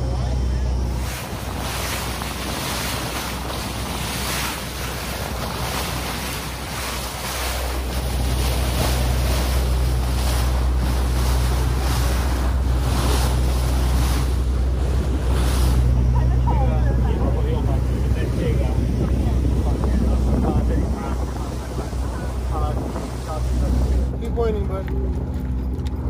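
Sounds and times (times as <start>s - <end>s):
low engine drone: 0.0s - 26.0s
water rushing along hull: 0.0s - 26.0s
wind buffeting microphone: 0.0s - 26.0s.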